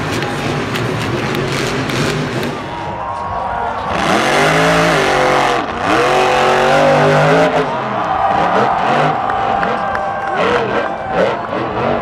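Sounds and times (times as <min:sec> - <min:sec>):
truck engine revving: 0:00.0 - 0:02.9, 0:03.8 - 0:12.0.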